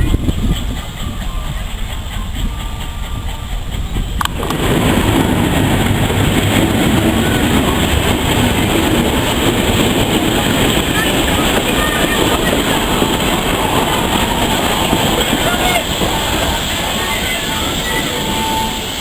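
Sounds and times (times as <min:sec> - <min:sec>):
train wheels rumbling and rattling: 0:00.0 - 0:19.0.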